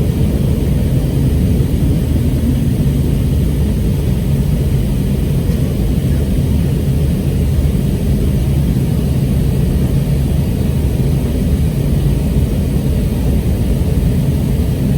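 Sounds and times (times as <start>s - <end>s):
jet engine drone: 0.0s - 14.9s.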